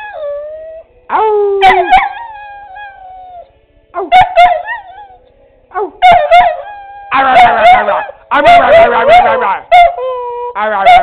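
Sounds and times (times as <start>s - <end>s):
dog yelping and howling: 0.0s - 0.9s, 1.6s - 5.2s, 5.8s - 11.0s.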